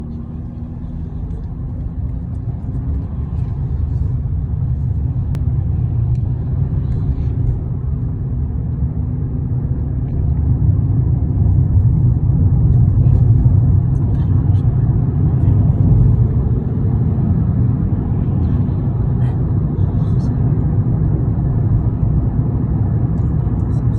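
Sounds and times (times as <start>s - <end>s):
road vehicle rumbling: 0.0s - 23.9s.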